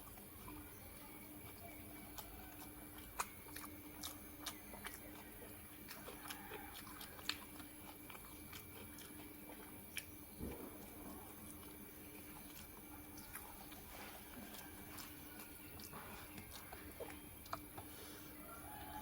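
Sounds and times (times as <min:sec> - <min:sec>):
faint steady hum: 0:00.0 - 0:19.0
person chewing crunchy food: 0:00.0 - 0:19.0.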